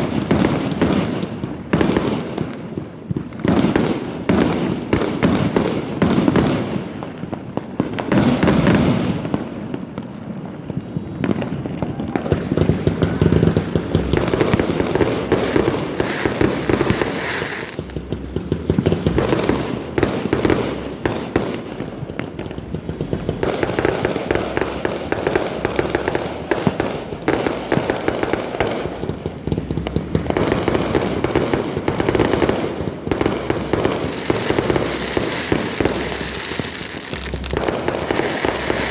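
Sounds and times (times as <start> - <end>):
fireworks exploding: 0.0 - 38.9.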